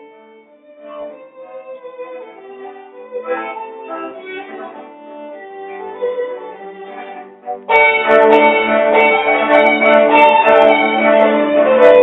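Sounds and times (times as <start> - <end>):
slow bowed string melody: 0.0 - 12.0.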